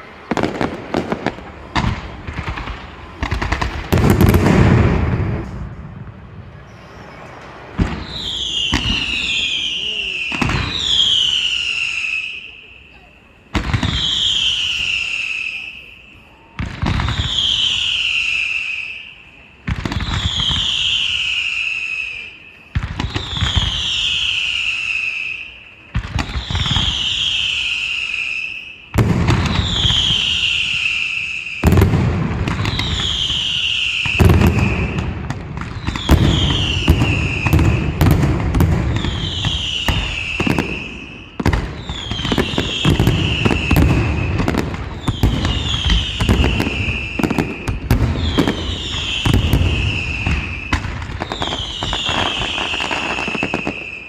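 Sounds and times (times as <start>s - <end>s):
low firework booms: 0.0s - 12.6s, 13.4s - 21.8s, 22.6s - 54.0s
falling firework whistle: 0.0s - 54.0s
firework bangs: 0.0s - 54.0s
firework crackling: 0.0s - 54.0s.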